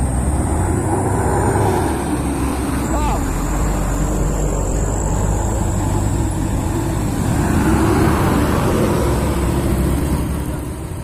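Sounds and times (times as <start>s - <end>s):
heavy trucks driving by: 0.0s - 11.0s.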